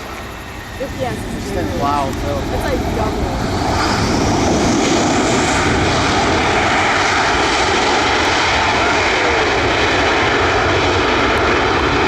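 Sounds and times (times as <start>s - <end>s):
faint jet whine: 0.0s - 12.0s
jet engines roaring: 0.0s - 12.0s.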